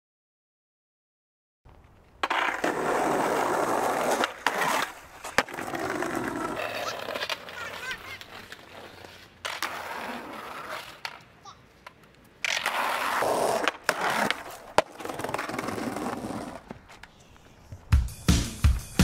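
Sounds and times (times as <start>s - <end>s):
skateboard wheels rolling on concrete: 1.7s - 19.0s
skateboard clacks: 1.8s - 19.0s.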